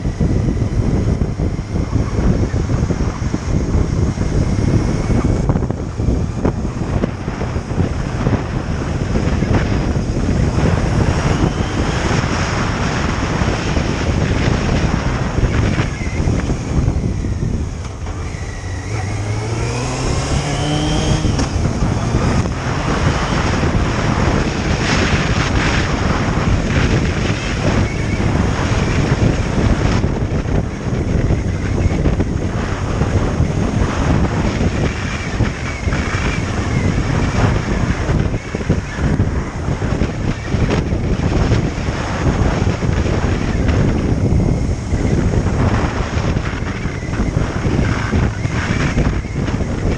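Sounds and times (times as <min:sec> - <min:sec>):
motorcycle engine: 0:00.0 - 0:49.9
wind rushing over microphone: 0:00.0 - 0:49.9.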